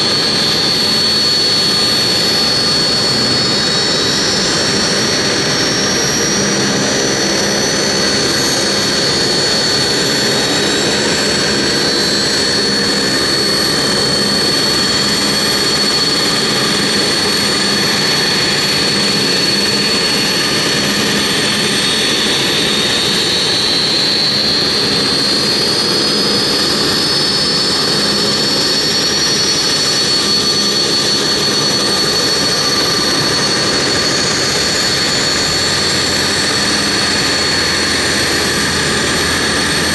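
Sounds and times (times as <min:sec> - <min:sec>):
engine spooling up: 0:00.0 - 0:39.9
jet engines whining: 0:00.0 - 0:39.9.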